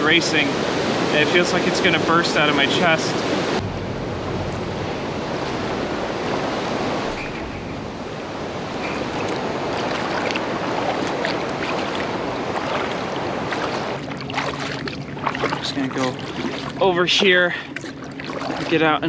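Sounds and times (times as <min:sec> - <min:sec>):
water rushing through lock gates: 0:00.0 - 0:19.0.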